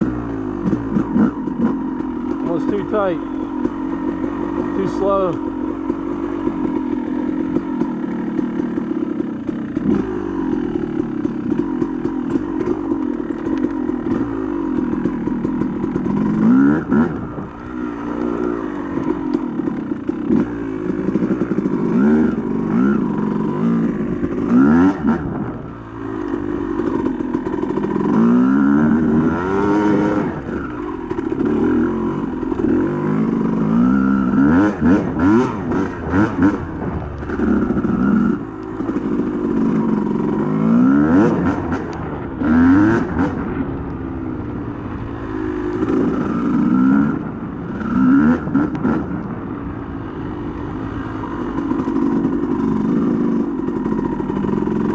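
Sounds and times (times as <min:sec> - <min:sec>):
dirt bike engine revving: 0:00.0 - 0:43.7, 0:45.2 - 0:49.4, 0:51.0 - 0:54.9.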